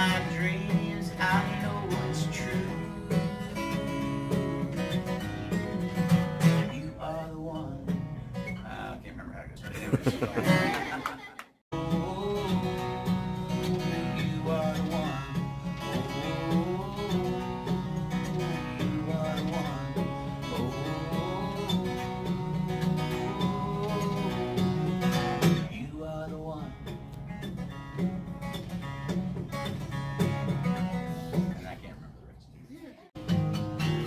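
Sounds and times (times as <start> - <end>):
acoustic guitar playing: 0.0 - 9.1, 9.7 - 32.0, 33.1 - 34.0.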